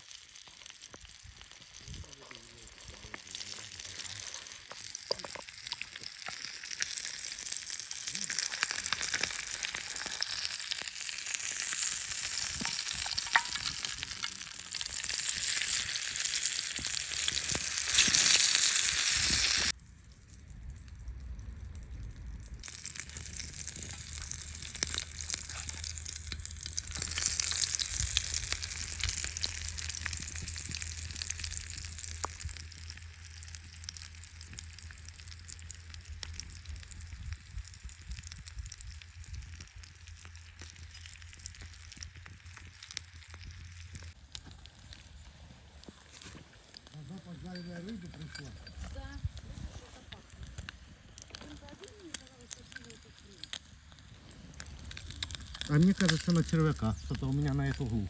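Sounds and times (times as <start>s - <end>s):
fish sizzling in a frying pan: 0.0s - 19.8s, 22.6s - 47.8s, 49.8s - 58.0s.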